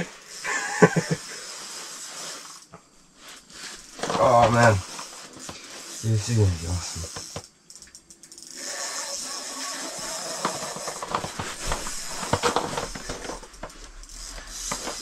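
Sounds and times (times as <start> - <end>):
fishing reel drag clicking: 0.0 - 15.0.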